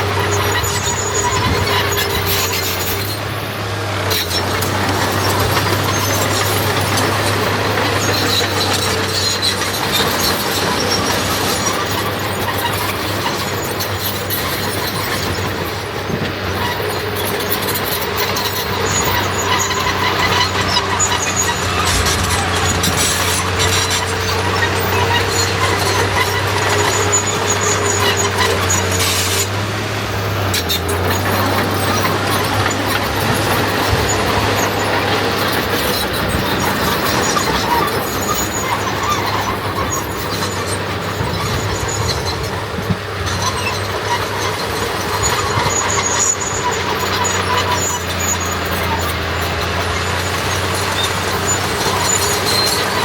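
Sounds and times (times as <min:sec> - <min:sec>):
bulldozer diesel engine running: 0:00.0 - 0:53.0
tracks squealing: 0:00.0 - 0:53.0.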